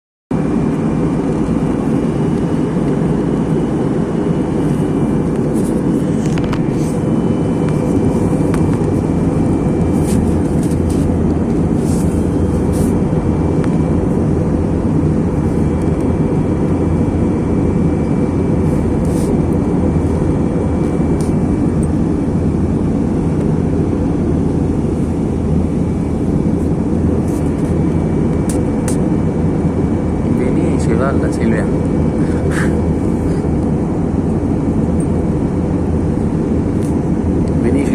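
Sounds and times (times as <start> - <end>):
airplane cabin engine rumble: 0.3 - 37.9.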